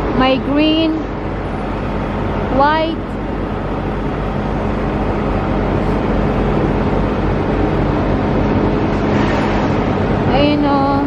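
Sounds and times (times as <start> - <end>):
diesel trucks idling: 0.0 - 11.0.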